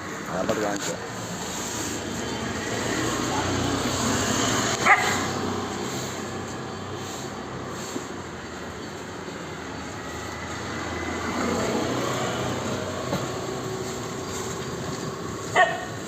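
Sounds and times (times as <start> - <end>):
traffic noise: 0.0 - 16.0
vehicle passing: 0.0 - 16.0.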